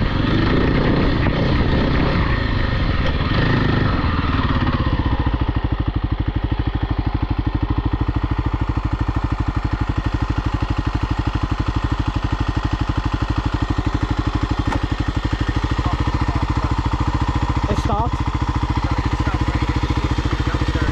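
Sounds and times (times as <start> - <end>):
small engine idling: 0.0 - 20.9.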